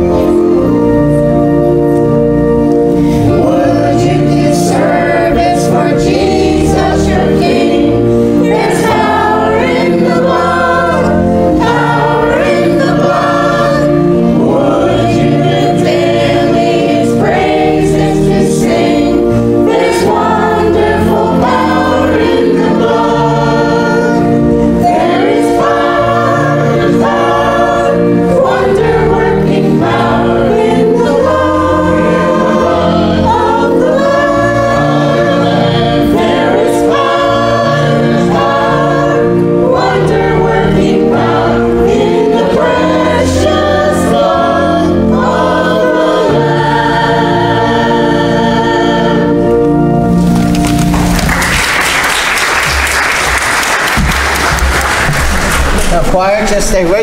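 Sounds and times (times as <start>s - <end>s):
church choir singing: 0.0s - 56.0s
organ: 0.0s - 56.0s.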